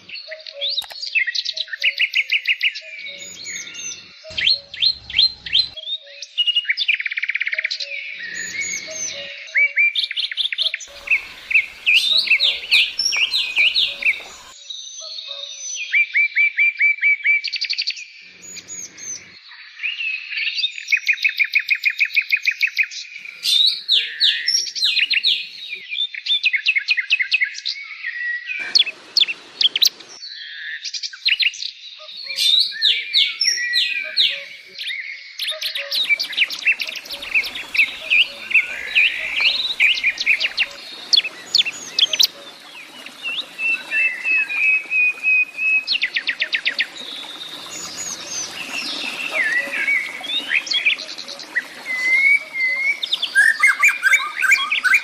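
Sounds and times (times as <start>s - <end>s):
songbirds chirping and trilling: 0.0s - 16.4s, 17.0s - 55.0s.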